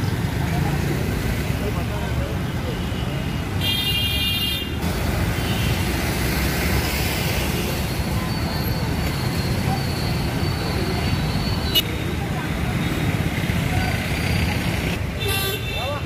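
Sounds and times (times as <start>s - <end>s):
busy road traffic rumble: 0.0s - 16.0s.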